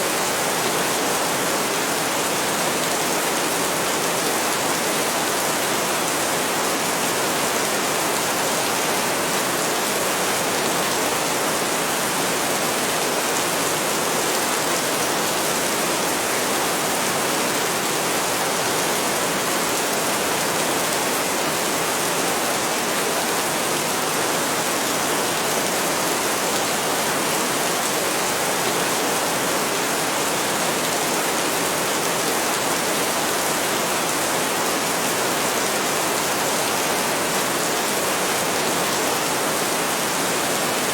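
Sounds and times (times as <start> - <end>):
heavy rain falling: 0.1 - 40.9.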